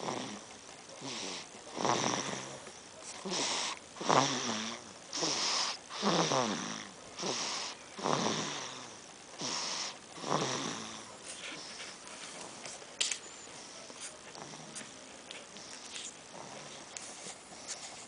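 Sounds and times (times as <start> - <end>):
baby snoring: 0.0 - 12.0, 14.3 - 17.8.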